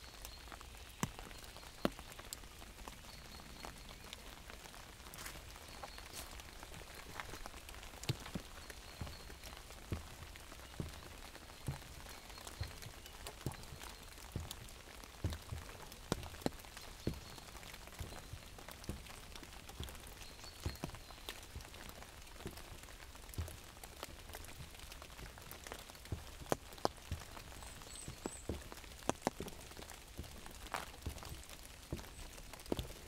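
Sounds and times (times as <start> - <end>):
steady rain patter: 0.0 - 33.0
drops tapping on umbrella: 3.6 - 33.0.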